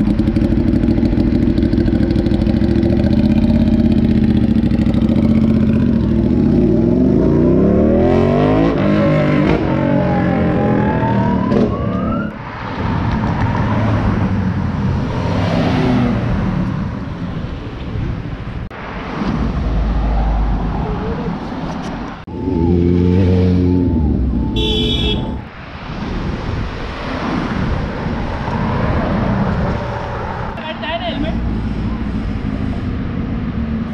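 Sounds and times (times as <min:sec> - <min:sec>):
loud engine passing: 0:00.0 - 0:17.1, 0:22.2 - 0:33.9
cars and motorbikes passing: 0:00.0 - 0:33.9.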